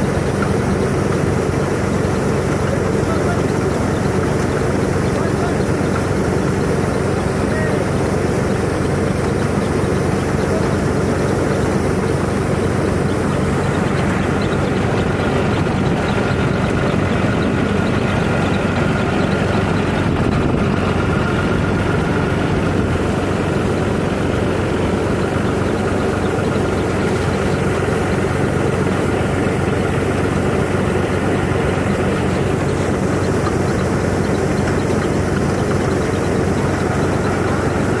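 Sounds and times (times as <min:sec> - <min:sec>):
harvesting machine engine drone: 0:00.0 - 0:38.0.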